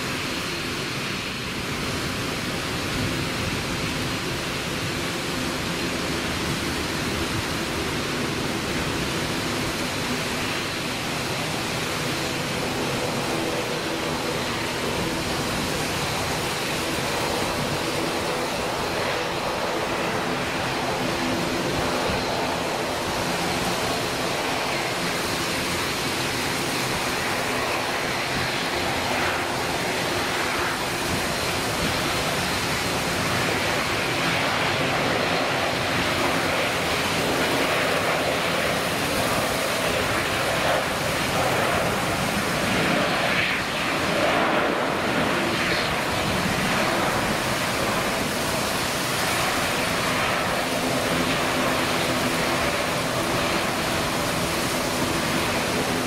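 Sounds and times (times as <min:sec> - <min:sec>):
jet airliner engine noise: 0:00.0 - 0:56.0
wind: 0:00.0 - 0:56.0.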